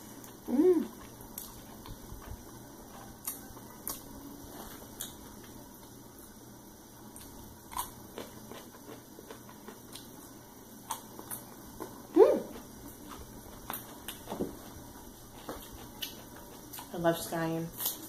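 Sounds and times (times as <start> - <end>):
person chewing: 0.0 - 6.4, 7.1 - 16.9.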